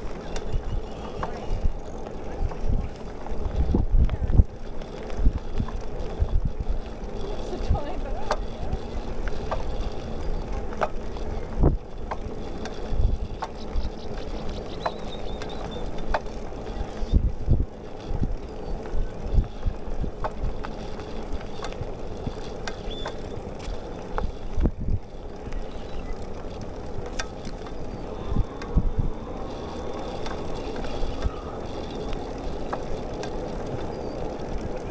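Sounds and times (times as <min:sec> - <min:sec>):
bicycle rolling on pavement: 0:00.0 - 0:34.9
light clicks and rattles: 0:00.0 - 0:34.9.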